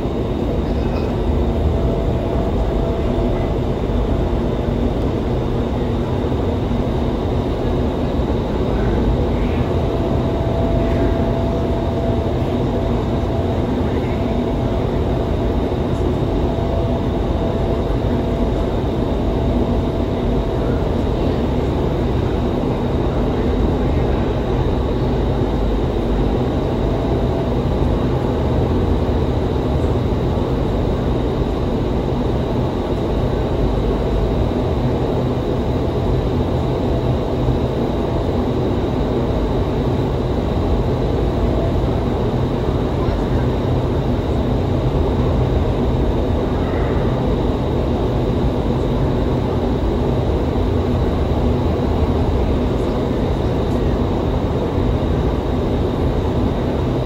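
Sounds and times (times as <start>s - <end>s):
faint steady hum: 0.0s - 57.0s
wind tunnel fans rumbling: 0.0s - 57.0s.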